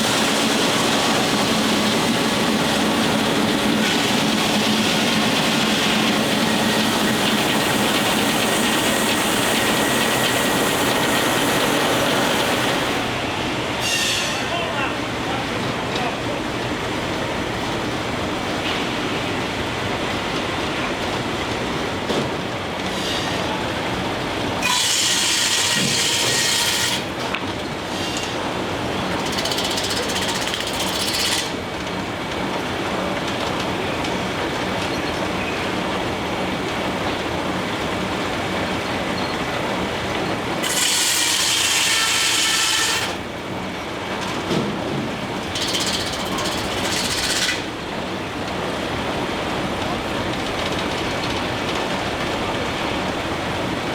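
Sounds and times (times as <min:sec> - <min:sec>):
steam sawmill running: 0:00.0 - 0:19.5, 0:22.8 - 0:53.9.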